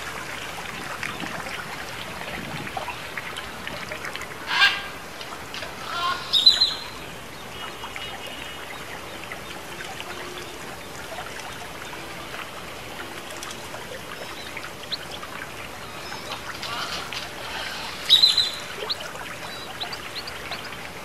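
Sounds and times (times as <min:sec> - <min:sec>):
water trickling down fountain: 0:00.0 - 0:21.0.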